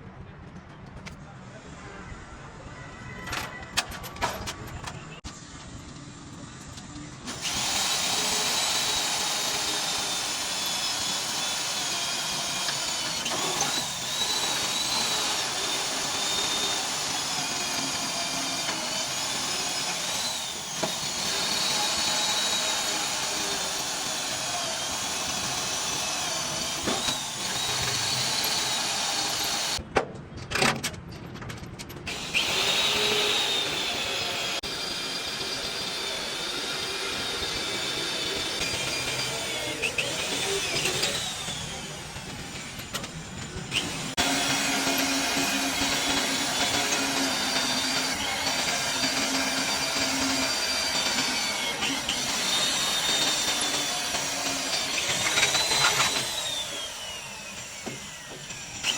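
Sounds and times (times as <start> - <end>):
power tool whining: 7.2 - 29.8, 32.1 - 58.9.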